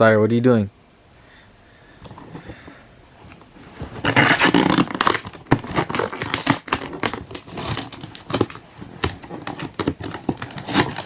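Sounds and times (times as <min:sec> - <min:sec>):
packaging tearing and crinkling: 0:02.0 - 0:11.0.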